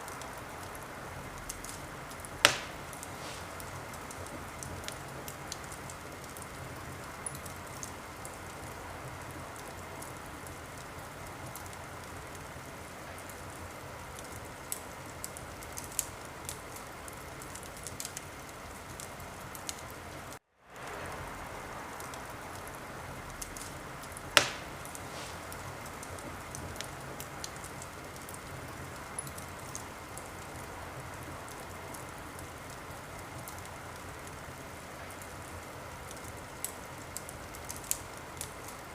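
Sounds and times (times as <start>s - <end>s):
fire crackling and popping: 0.0s - 38.9s
fire hissing: 0.0s - 38.9s.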